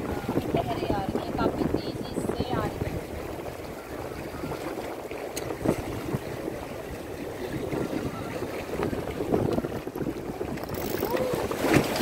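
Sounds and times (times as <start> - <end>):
water slapping boat hull: 0.0 - 12.0
wind buffeting microphone: 0.0 - 12.0.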